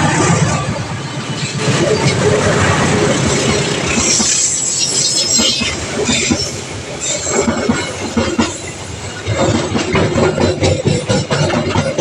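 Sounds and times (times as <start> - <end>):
train wheels knocking over rail joints: 0.1 - 12.0.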